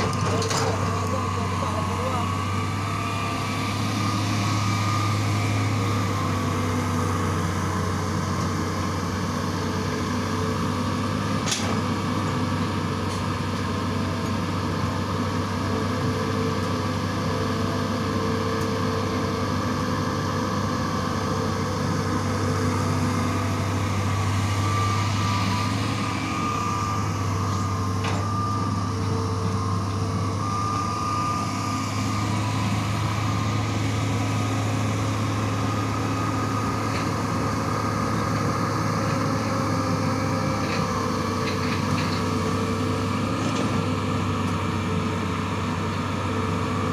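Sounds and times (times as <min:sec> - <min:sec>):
excavator diesel engine running: 0:00.0 - 0:46.9
hydraulic whine: 0:00.0 - 0:46.9.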